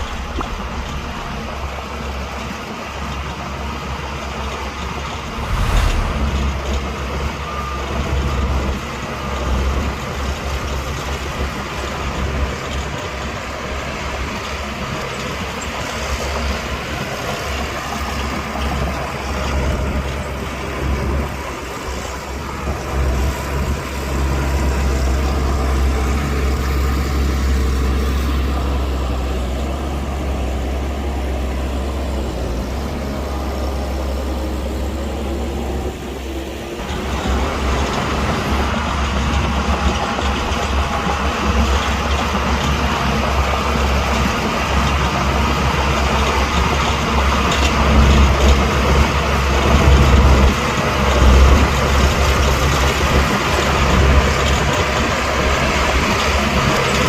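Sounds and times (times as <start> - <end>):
diesel machinery rumbling: 0.0 - 57.0.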